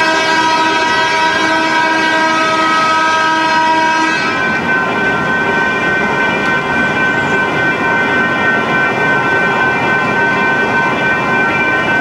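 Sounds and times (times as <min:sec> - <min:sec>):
train wheels rolling: 0:00.0 - 0:12.0.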